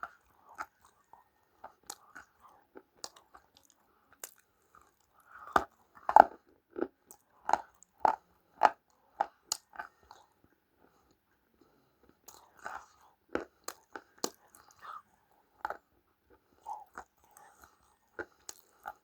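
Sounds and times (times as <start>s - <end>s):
person chewing crunchy food: 0.0s - 11.2s, 12.0s - 19.0s.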